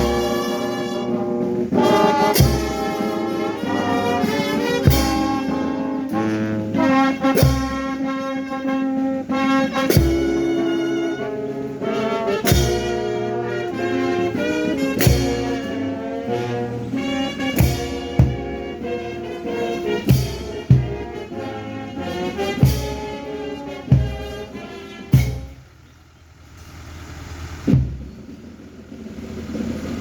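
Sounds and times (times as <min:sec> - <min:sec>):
heavy drum stroke: 0:00.0 - 0:25.7, 0:27.6 - 0:30.0
slow brass music: 0:00.0 - 0:25.7.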